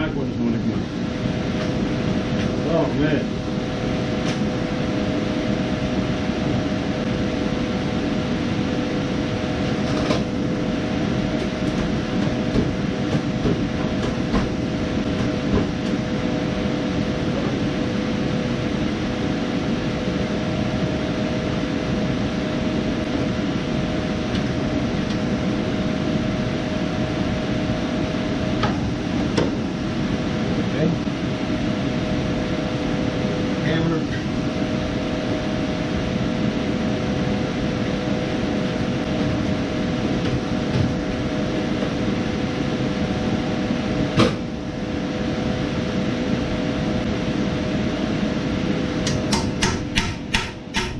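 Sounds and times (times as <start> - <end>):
machine drone with two-tone hum: 0.0 - 50.9.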